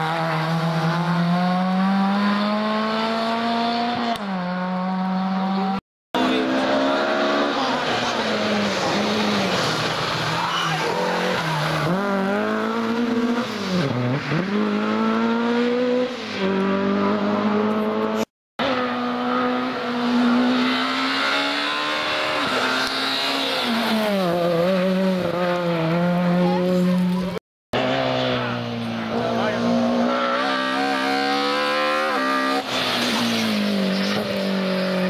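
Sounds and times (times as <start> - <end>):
rally car engine revving hard: 0.0 - 10.2, 10.8 - 35.0.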